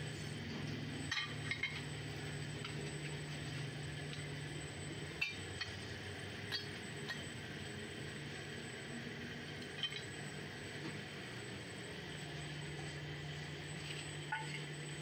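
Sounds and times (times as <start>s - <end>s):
furnace blower humming: 0.0s - 15.0s.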